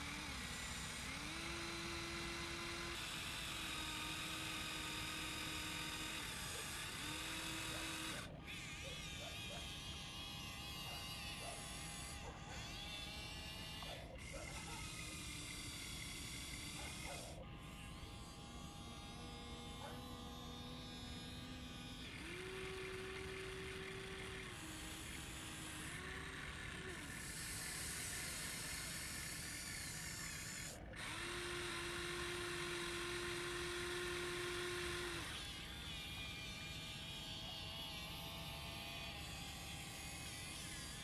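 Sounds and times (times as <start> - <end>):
electric motors whining: 0.0 - 41.0
rough grinding noise: 0.0 - 41.0.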